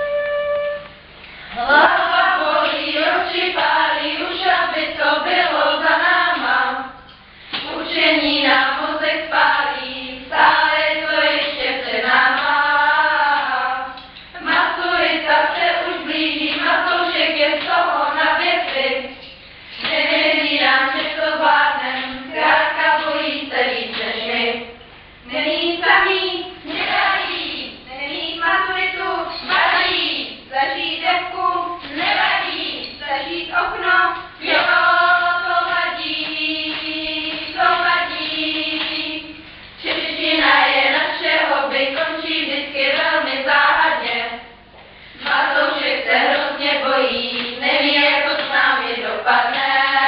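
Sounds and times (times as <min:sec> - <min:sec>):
group singing together: 0:01.5 - 0:50.0.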